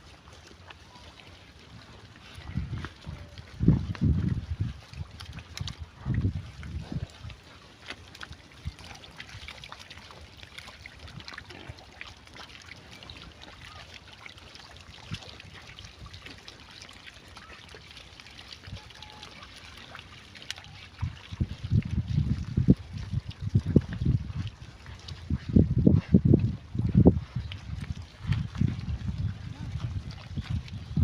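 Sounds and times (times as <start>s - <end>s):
pigs splashing in muddy water: 0.0s - 31.0s.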